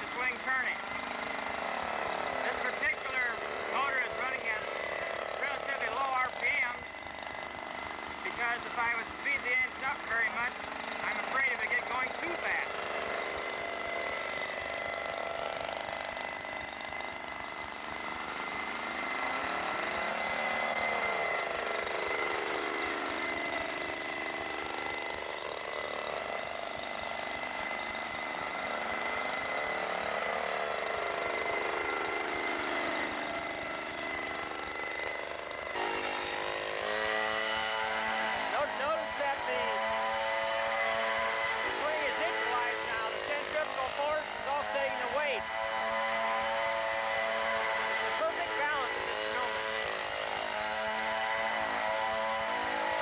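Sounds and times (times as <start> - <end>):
leaf blower engine running: 0.0 - 53.0.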